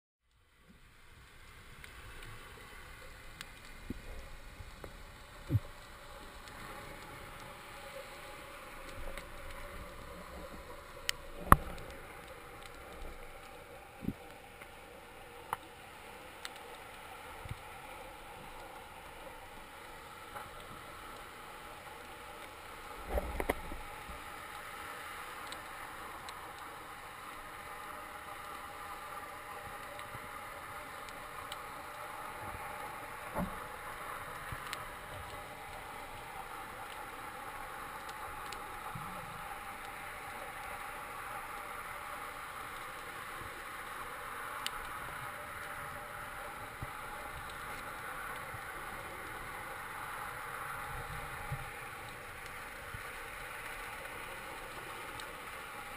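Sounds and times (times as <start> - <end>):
underwater hiss: 0.6 - 55.9.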